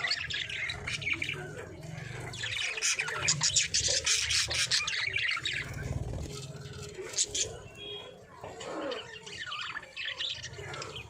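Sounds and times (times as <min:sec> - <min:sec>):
budgies chattering: 0:00.0 - 0:11.0.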